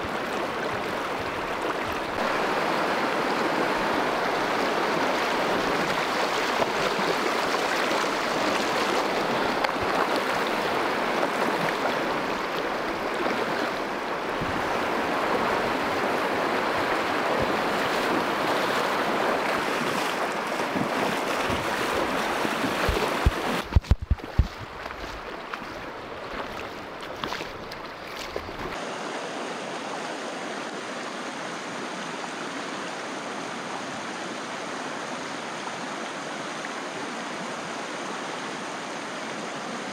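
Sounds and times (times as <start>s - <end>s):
river rushing over a riffle: 0.0s - 39.9s.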